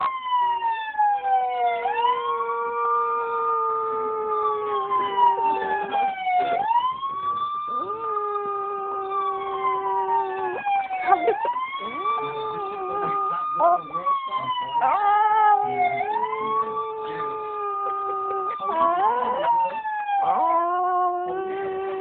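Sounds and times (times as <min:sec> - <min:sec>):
siren wailing: 0:00.0 - 0:22.0
dog howling: 0:01.6 - 0:06.8, 0:07.7 - 0:22.0.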